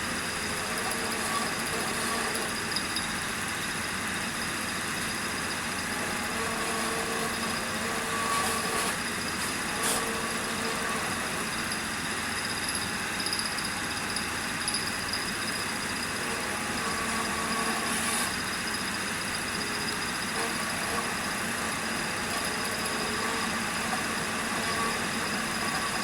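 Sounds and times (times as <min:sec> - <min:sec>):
engraving machine motor running: 0:00.0 - 0:26.0.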